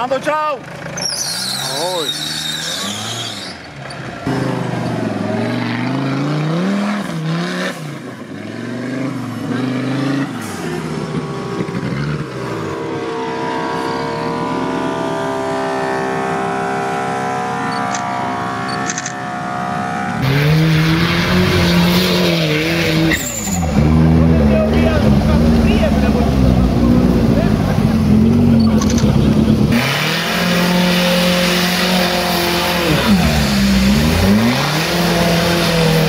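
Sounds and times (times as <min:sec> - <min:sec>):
off-road engines revving: 0:00.0 - 0:36.0
louder vehicle engine revving: 0:00.7 - 0:36.0.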